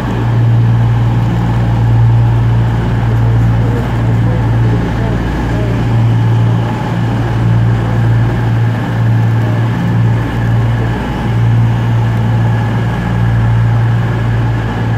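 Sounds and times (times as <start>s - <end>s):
diesel train engine humming: 0.0s - 14.9s.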